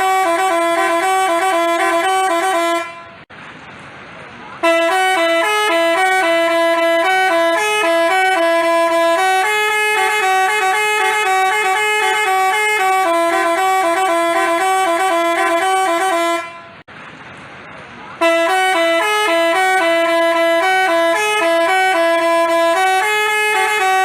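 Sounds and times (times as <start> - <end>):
bus air horn playing melody: 0.0 - 3.3, 4.6 - 16.9, 18.2 - 24.0.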